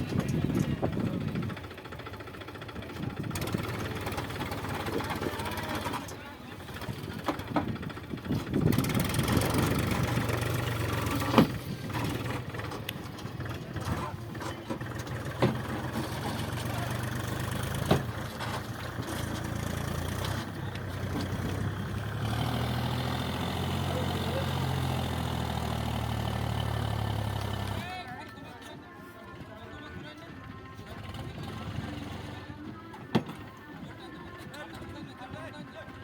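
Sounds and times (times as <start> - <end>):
diesel engine running: 0.0 - 28.1, 30.4 - 34.2.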